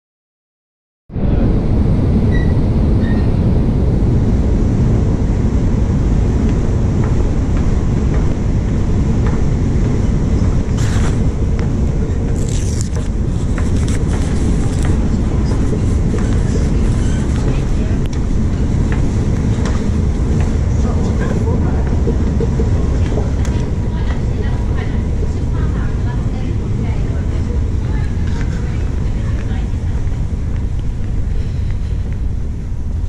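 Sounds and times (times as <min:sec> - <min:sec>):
escalator rumbling: 0:01.1 - 0:33.0.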